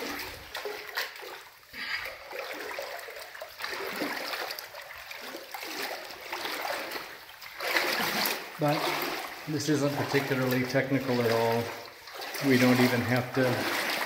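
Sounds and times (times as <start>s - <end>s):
legs wading through water: 0.0s - 14.0s.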